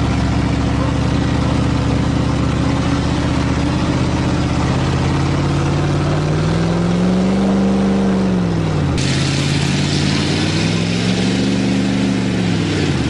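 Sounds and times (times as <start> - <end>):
engine revving: 0.0 - 13.0
truck engines running: 0.0 - 13.0.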